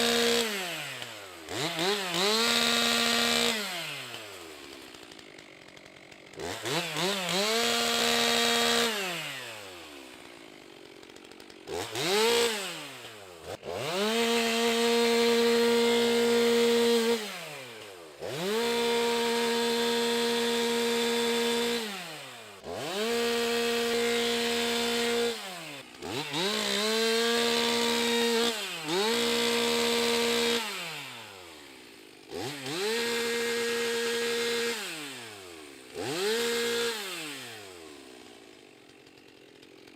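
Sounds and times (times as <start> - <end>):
chainsaw idling: 0.0 - 39.9
chainsaw revving and cutting log: 0.0 - 39.9.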